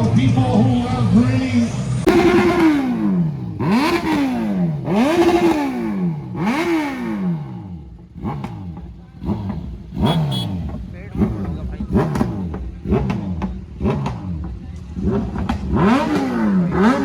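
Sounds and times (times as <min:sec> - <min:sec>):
vehicle engine revving hard: 0:02.0 - 0:17.0.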